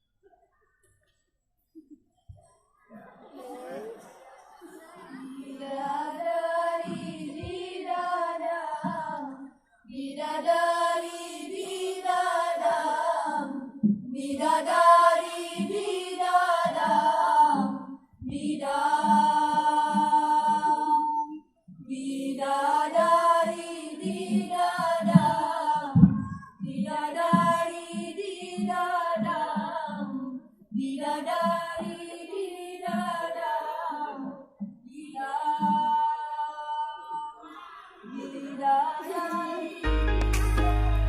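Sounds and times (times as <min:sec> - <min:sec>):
female choir singing: 0:03.4 - 0:41.0.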